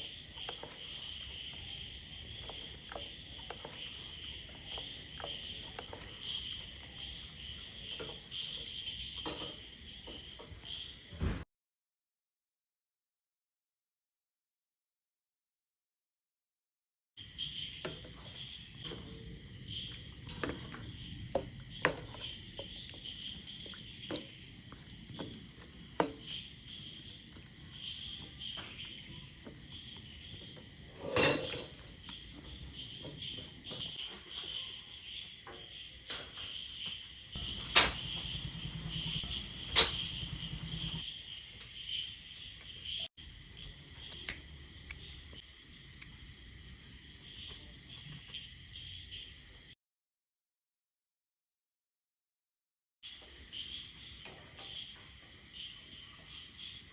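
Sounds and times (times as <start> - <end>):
crickets chirring: 0.0 - 11.4, 17.2 - 49.8, 53.0 - 56.9.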